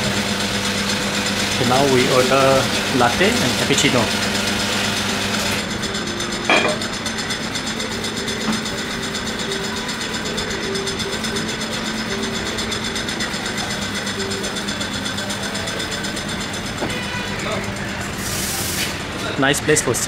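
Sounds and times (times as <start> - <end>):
coffee machine whirring: 0.0 - 20.0.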